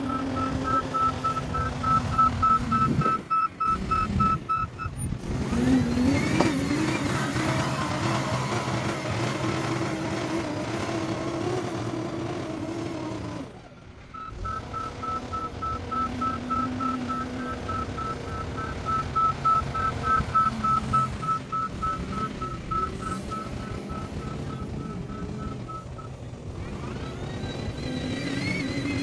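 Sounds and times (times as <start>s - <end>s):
reversing alarm beeping: 0.0s - 5.1s, 6.0s - 10.4s, 14.1s - 29.0s
heavy machine engine running: 0.0s - 29.0s.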